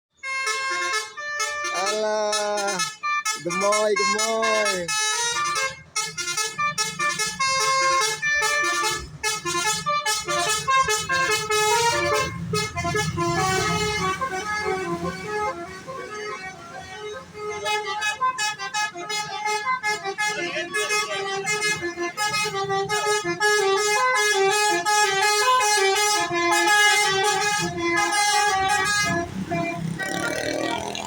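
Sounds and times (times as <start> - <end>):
diesel engine rumbling: 0.1 - 31.0
musical air horns melody: 0.2 - 31.0.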